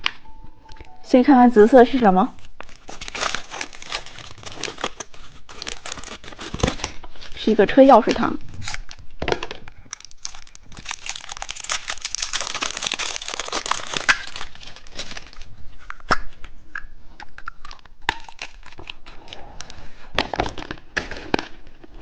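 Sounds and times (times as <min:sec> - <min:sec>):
candy wrapper crinkling and tearing: 0:02.4 - 0:07.4, 0:08.5 - 0:21.7.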